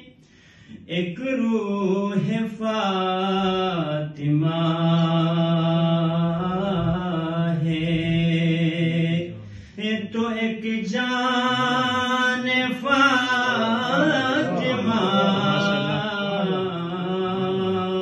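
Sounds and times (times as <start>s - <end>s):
man chanting: 0.7s - 18.0s.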